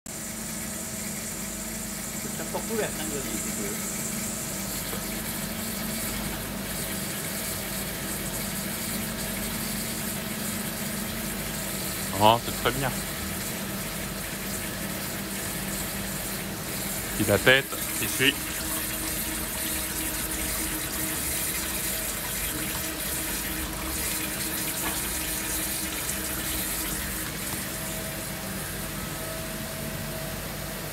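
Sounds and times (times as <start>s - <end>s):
water jetting steadily: 0.1s - 29.4s
pump humming: 0.1s - 30.9s.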